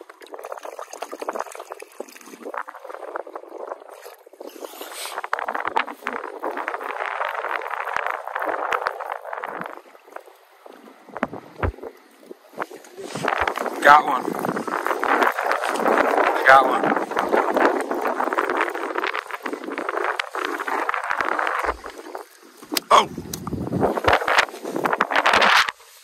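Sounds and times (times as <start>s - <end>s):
water lapping against boat: 0.0s - 26.0s.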